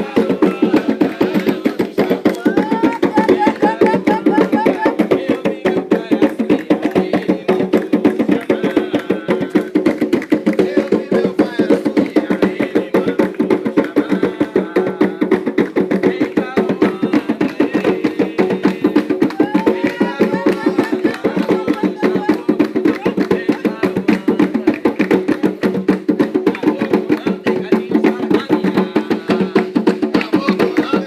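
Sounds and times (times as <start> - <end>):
fast hand drumming: 0.0 - 31.0
voices singing a chant: 0.0 - 31.0.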